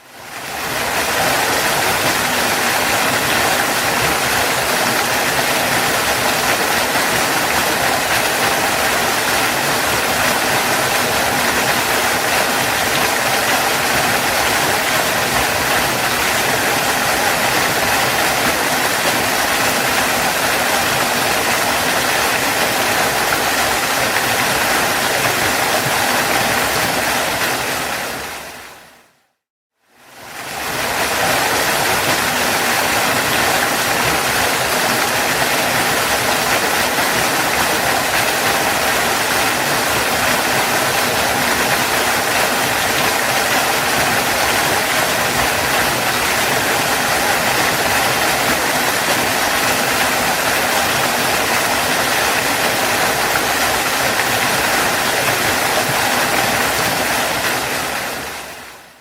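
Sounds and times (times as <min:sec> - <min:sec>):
waterfall rushing: 0:00.0 - 0:29.2, 0:30.1 - 0:59.0.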